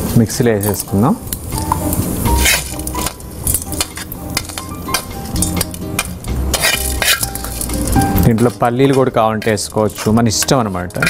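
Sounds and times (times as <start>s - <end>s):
spoon scraping metal pan: 1.7s - 11.0s.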